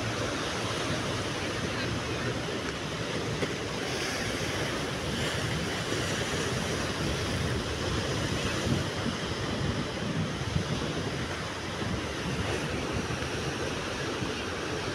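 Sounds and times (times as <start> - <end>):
waves breaking on rocky shore: 0.0 - 14.9
wind buffeting microphone: 0.0 - 14.9.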